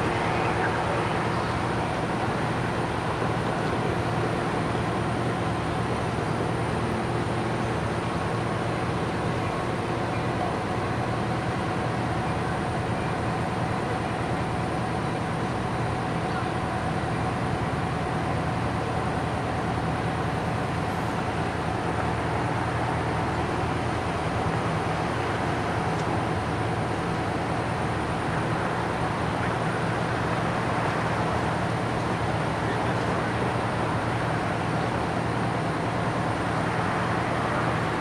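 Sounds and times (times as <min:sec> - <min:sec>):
low engine drone: 0:00.0 - 0:38.0
road traffic: 0:00.0 - 0:38.0.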